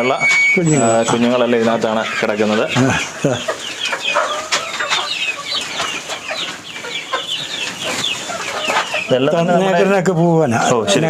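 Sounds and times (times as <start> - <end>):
chicks clucking and peeping: 0.0 - 11.0.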